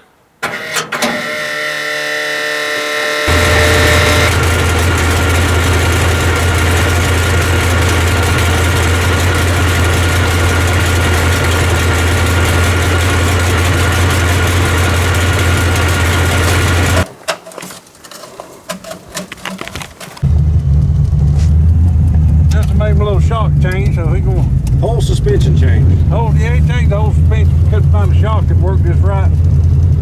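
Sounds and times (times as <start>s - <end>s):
truck engine droning: 0.4s - 17.1s, 20.2s - 30.0s.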